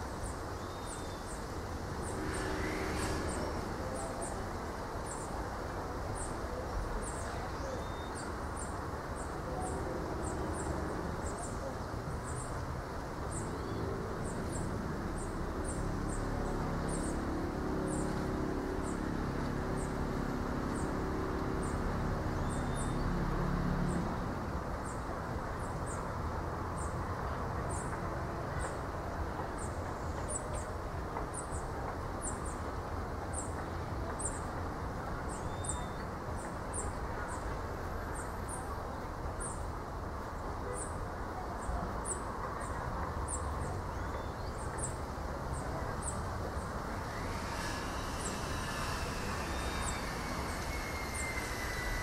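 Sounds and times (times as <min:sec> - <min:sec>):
wind through palm fronds: 0:00.0 - 0:52.0.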